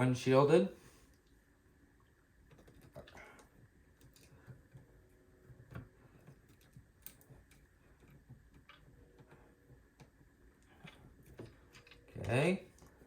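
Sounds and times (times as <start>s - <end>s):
faint clicks and taps: 2.0s - 13.0s.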